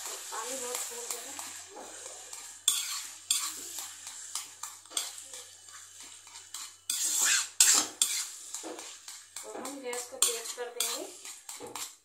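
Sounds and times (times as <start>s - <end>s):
spatula scraping metal pan: 0.0s - 12.0s.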